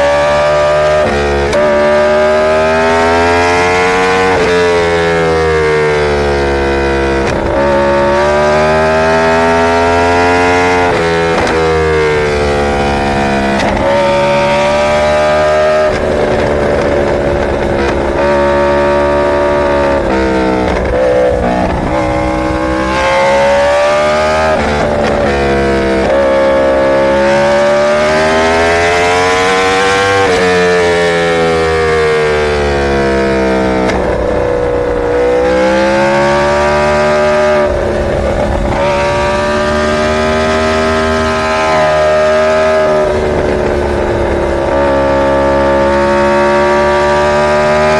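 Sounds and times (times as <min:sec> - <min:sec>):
superbike engine revving hard: 0:00.0 - 0:47.9.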